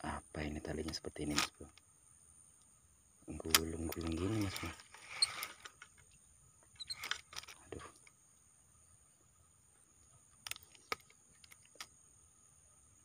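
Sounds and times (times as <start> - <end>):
high-pitched insect buzzing: 1.0 - 13.0.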